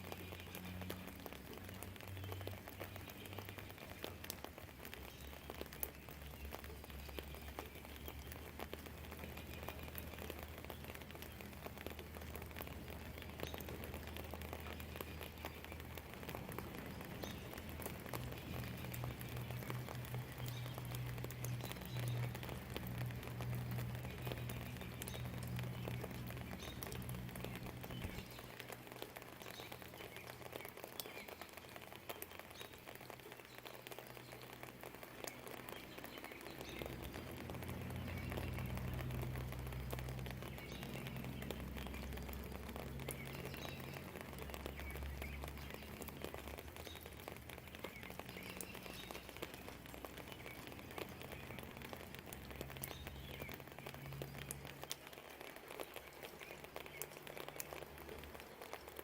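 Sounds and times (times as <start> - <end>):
faint birdsong chirping: 0.0 - 59.0
light rain pattering: 0.0 - 59.0.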